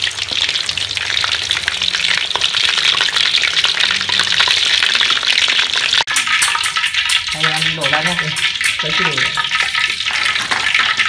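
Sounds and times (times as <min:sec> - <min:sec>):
oil crackling and sizzling: 0:00.0 - 0:11.0.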